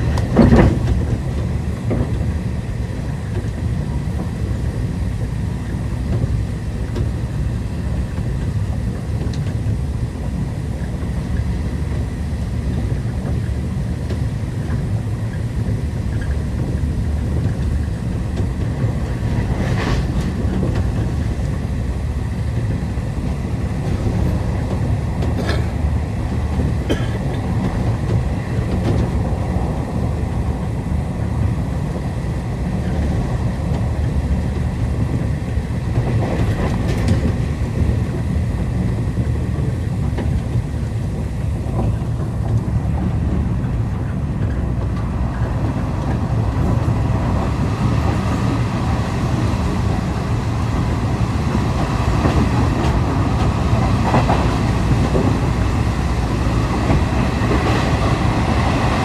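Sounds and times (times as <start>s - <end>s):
train carriage rumbling: 0.0s - 59.0s.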